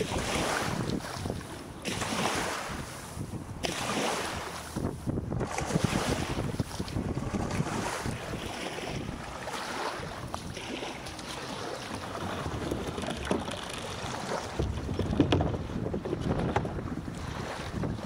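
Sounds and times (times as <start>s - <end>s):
small waves lapping: 0.0s - 18.0s
wind buffeting microphone: 0.0s - 18.0s.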